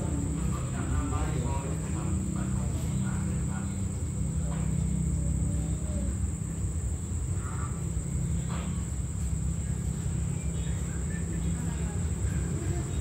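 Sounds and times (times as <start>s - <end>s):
faint voices: 0.0s - 13.0s
night insects trilling: 0.0s - 13.0s.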